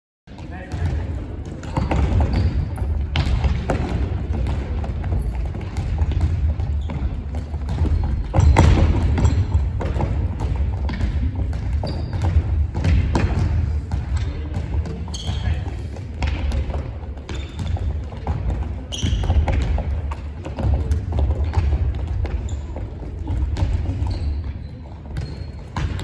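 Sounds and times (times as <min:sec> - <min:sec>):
balls thudding on wooden floor: 0:00.7 - 0:24.2.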